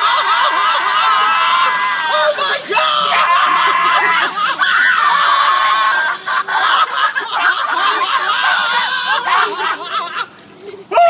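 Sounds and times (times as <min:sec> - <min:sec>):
children shrieking and laughing: 0:00.0 - 0:11.0.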